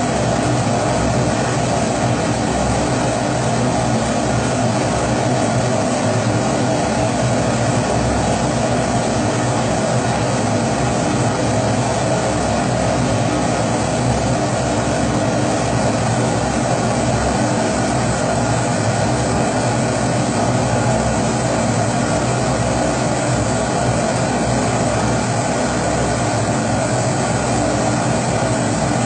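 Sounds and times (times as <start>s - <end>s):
pressurized stove burner roaring: 0.0s - 29.0s.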